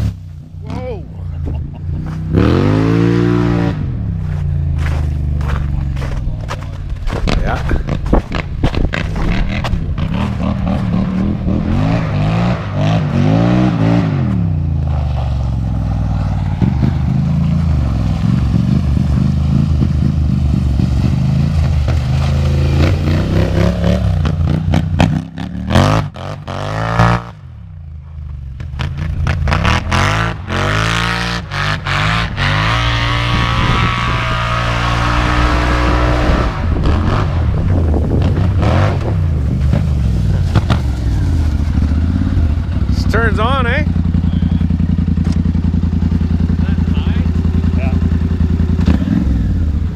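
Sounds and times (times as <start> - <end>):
atv engine revving: 0.0 - 49.9.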